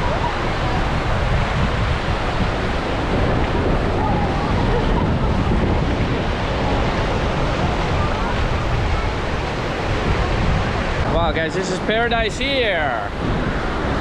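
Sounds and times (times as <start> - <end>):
faint voices: 0.0 - 13.2
surf washing: 0.0 - 14.0
wind rumbling on microphone: 0.0 - 14.0.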